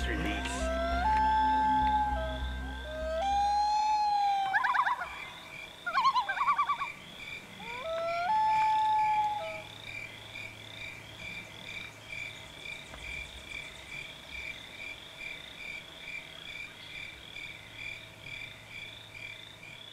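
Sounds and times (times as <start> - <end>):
frogs peeping in chorus: 0.0 - 19.9.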